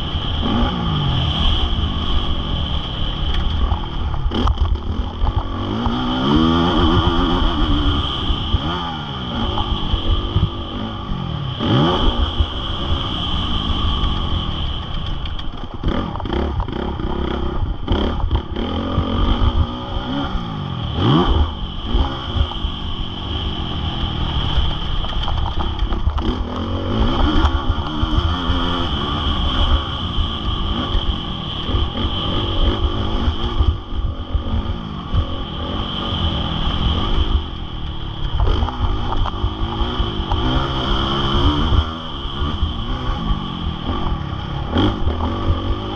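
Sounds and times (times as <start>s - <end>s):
heavy low rumble: 0.0s - 45.9s
motorcycle engine revving: 0.0s - 45.9s.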